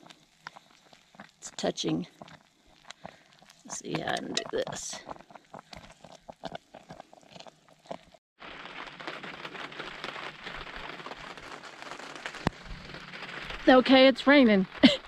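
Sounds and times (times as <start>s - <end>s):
rain pattering: 0.0s - 5.8s, 6.4s - 15.0s.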